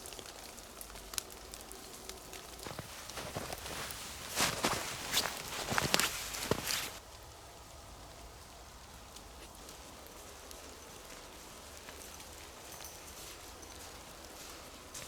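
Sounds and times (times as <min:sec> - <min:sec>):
water dripping from trees: 0:00.0 - 0:15.0.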